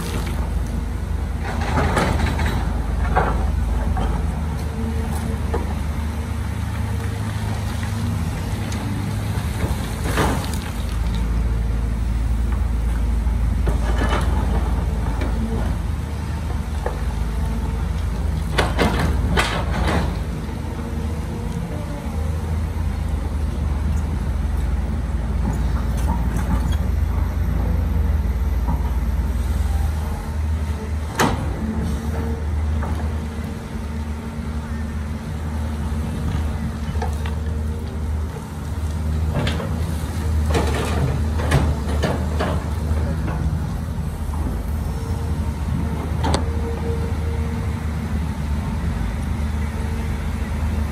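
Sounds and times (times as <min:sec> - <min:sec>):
diesel engine droning: 0:00.0 - 0:50.9.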